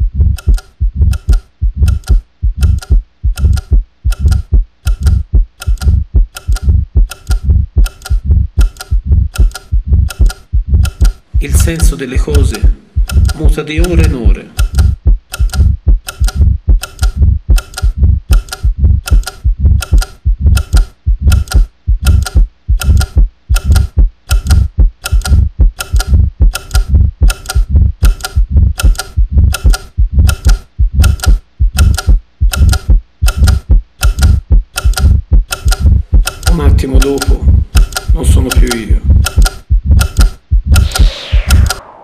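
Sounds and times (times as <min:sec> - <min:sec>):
clock ticking with low thump: 0:00.0 - 0:42.0.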